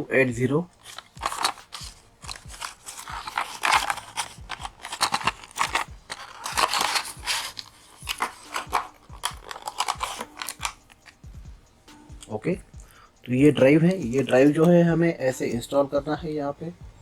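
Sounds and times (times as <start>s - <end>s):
crackling and rustling handling noise: 0.0s - 11.3s, 13.5s - 16.7s.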